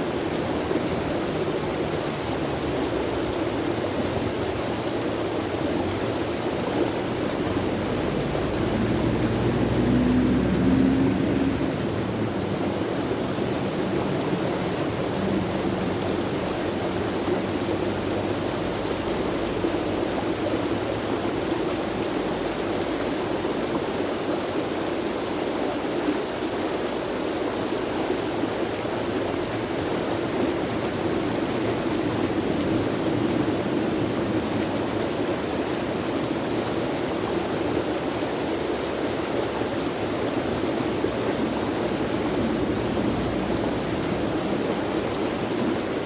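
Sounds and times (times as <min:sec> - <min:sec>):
running water rushing: 0:00.0 - 0:46.0.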